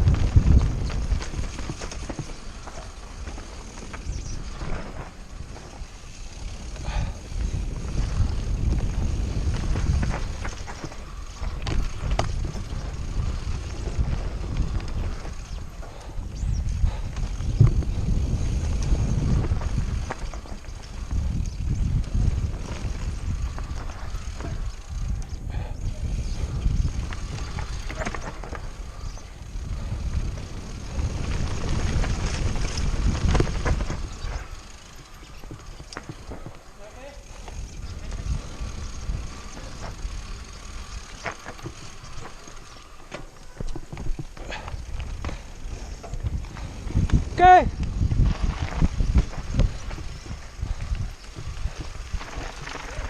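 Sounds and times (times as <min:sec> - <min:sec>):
bike clattering over stones: 0:00.0 - 0:16.1, 0:16.8 - 0:25.3, 0:26.3 - 0:53.0
wind buffeting microphone: 0:00.0 - 0:53.0.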